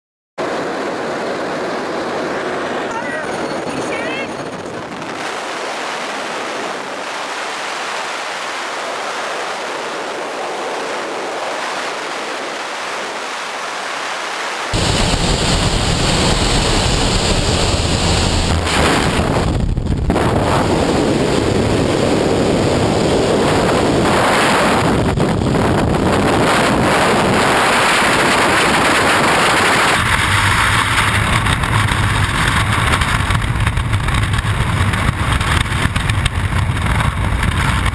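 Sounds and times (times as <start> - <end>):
wind rushing over microphone: 0.4 - 37.9.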